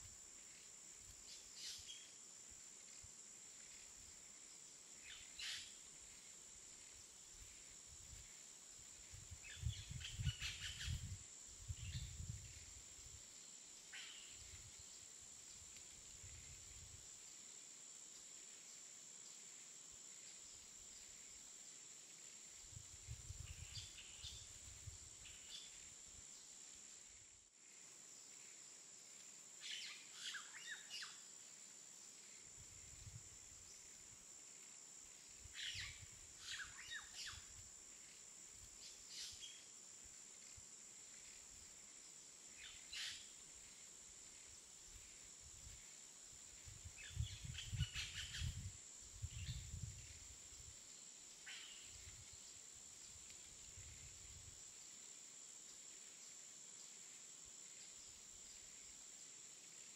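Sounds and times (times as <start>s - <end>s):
faint high hiss: 0.0s - 59.9s.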